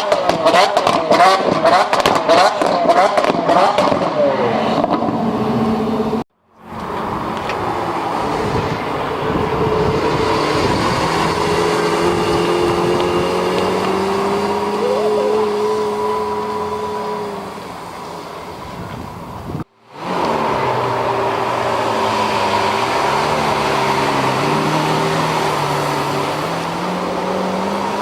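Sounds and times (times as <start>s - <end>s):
car engine droning: 0.0s - 28.0s.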